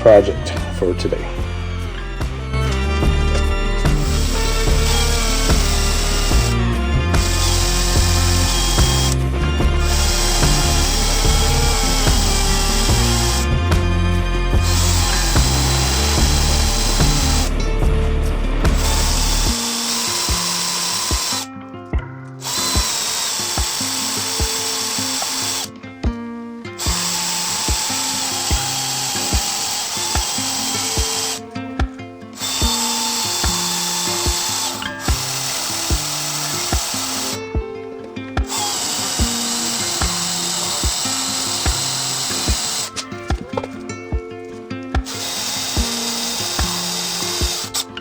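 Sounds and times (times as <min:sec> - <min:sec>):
electric drill drilling steel: 0:00.0 - 0:21.5, 0:22.4 - 0:25.7, 0:26.8 - 0:31.5, 0:32.4 - 0:37.4, 0:38.4 - 0:43.1, 0:45.0 - 0:48.0
background music with steady beat: 0:00.0 - 0:48.0.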